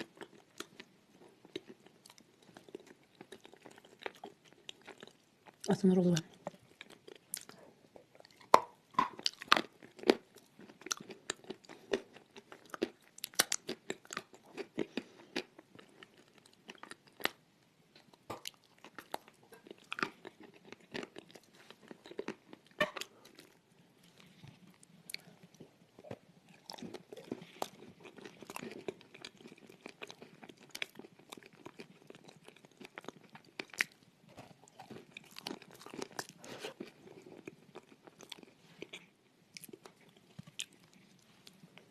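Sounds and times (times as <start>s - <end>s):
crunchy chewing: 0.0s - 7.6s, 8.2s - 17.4s, 18.1s - 41.9s.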